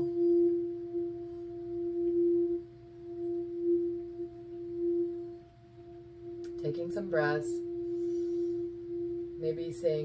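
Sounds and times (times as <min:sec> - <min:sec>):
singing bowl ringing: 0:00.0 - 0:10.0.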